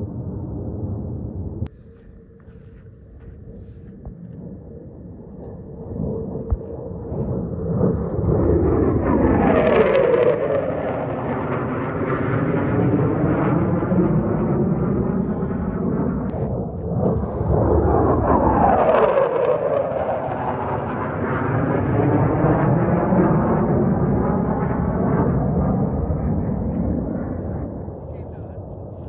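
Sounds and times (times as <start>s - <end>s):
jet flying past: 0.0s - 29.0s.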